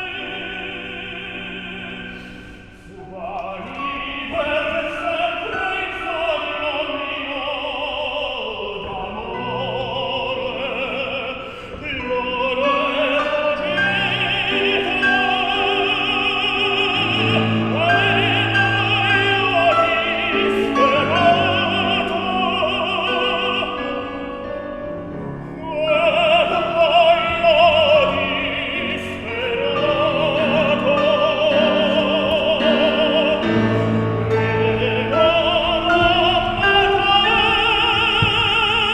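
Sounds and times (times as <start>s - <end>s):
operatic singing with vibrato: 0.0s - 38.9s.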